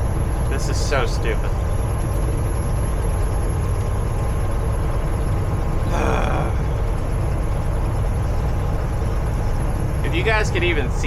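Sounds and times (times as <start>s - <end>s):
road noise inside cab: 0.0s - 11.0s
truck engine droning: 0.0s - 11.0s.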